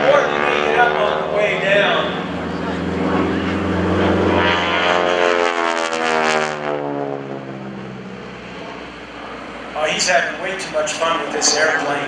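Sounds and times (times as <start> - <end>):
propeller plane engine passing: 0.0 - 12.0.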